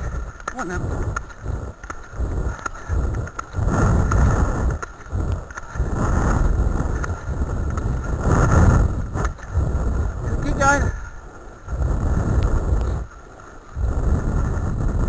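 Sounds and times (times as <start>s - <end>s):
wheels crunching over gravel: 0.0s - 15.0s.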